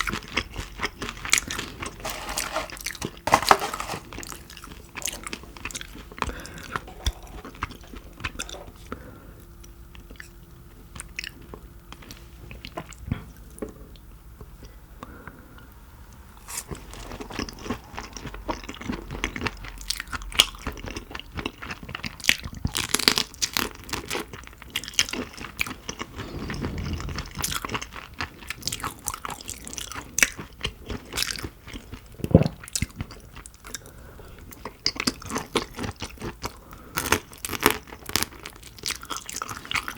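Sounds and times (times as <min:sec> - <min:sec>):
crunching and chewing shrimp: 0:00.0 - 0:13.2, 0:16.4 - 0:39.9.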